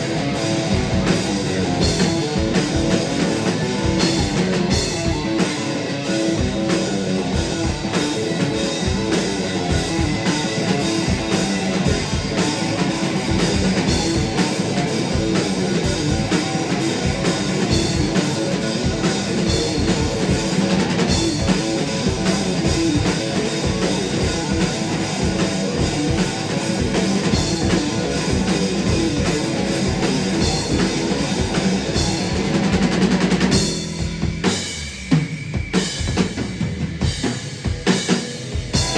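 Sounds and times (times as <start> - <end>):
driving drum kit: 0.0 - 38.9
electric guitar: 0.0 - 38.9.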